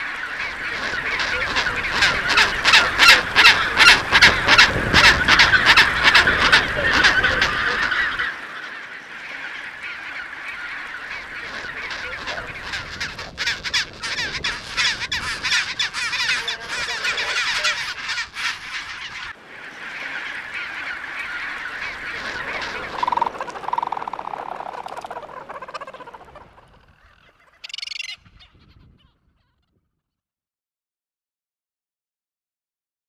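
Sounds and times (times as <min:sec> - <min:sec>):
bird colony calling: 0:00.0 - 0:29.7.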